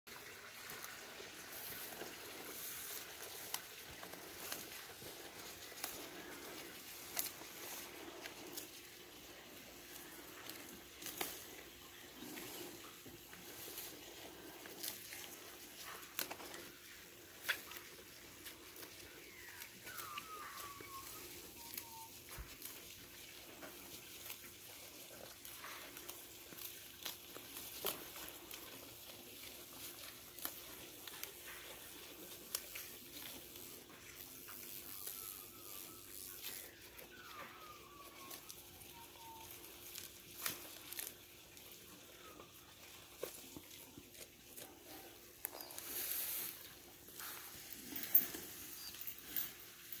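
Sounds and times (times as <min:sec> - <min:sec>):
crackles: 0:00.1 - 0:50.0
goat tearing and chewing grass: 0:00.1 - 0:50.0.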